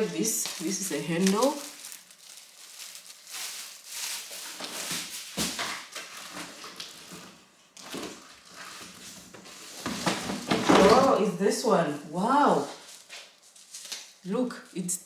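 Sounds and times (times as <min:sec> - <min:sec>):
plastic packaging rustling: 0:00.0 - 0:11.4, 0:12.5 - 0:14.2.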